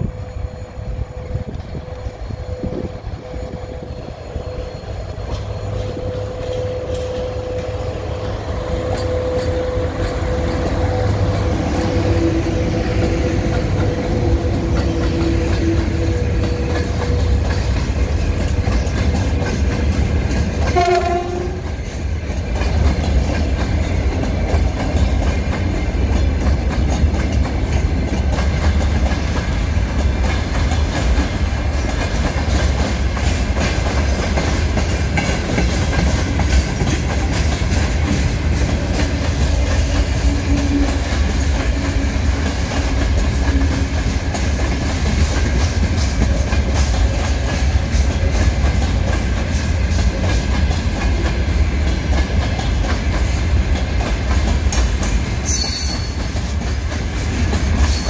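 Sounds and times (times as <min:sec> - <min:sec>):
train wheels rumbling over joints: 0:00.0 - 0:58.0.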